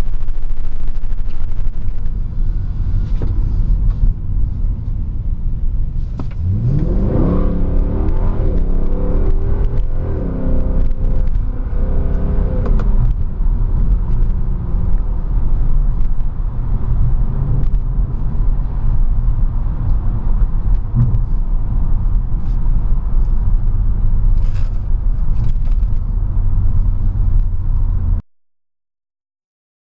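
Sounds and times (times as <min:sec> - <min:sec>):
car engine deep rumble: 0:00.0 - 0:28.2.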